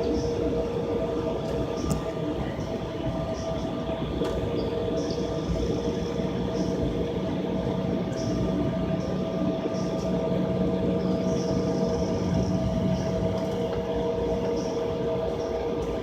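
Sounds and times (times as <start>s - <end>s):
cabin air drone: 0.0s - 16.0s
jet engines idling: 0.0s - 16.0s.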